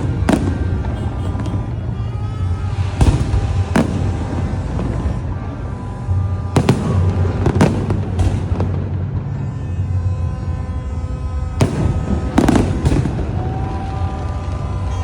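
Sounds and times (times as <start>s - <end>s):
fireworks banging: 0.0s - 15.0s
music playing: 0.0s - 15.0s.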